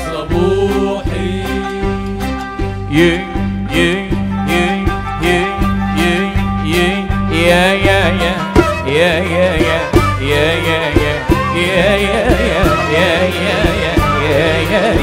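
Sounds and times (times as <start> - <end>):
instrumental accompaniment with bass: 0.0 - 15.0
man singing ornamented phrases: 0.0 - 15.0.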